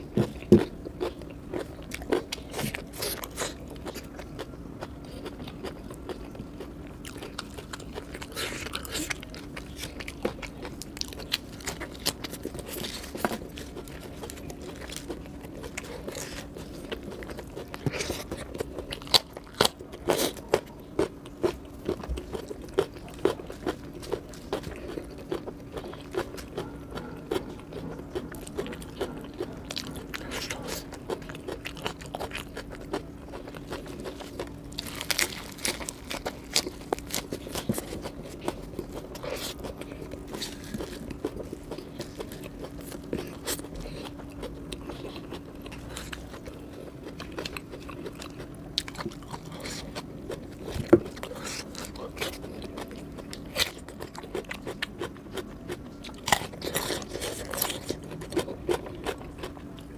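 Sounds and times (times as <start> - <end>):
faint steady hum: 0.0 - 59.9
person chewing and crunching food: 0.0 - 59.9.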